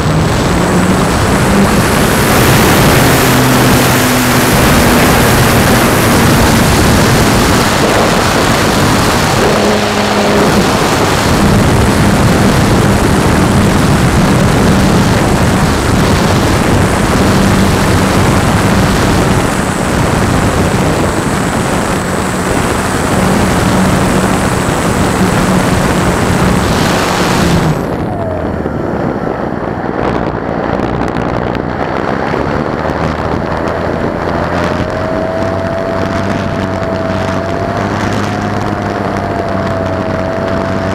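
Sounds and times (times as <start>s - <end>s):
propeller hiss: 0.0s - 39.1s
wind noise: 0.0s - 40.9s.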